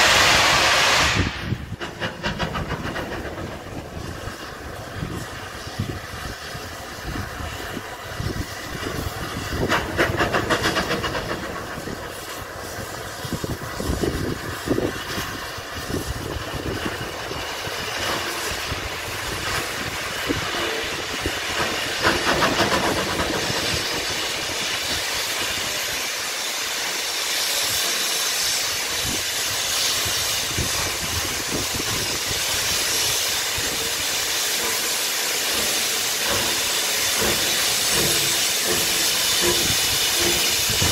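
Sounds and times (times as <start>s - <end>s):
steam hissing: 0.0s - 40.9s
steam locomotive exhaust beats: 0.0s - 40.9s.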